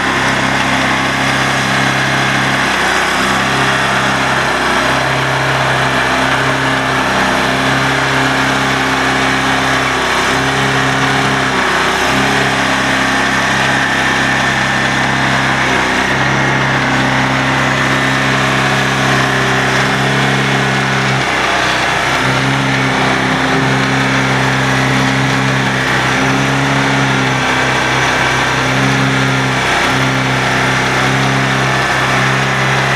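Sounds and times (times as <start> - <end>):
stump grinder engine humming: 0.0 - 32.9.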